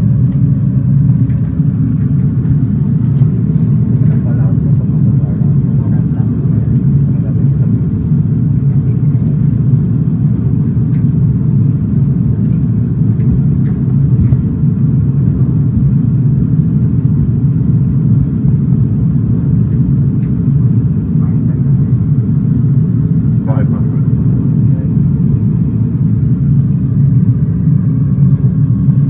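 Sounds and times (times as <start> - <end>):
simulated engine and airflow rumble: 0.0 - 29.0.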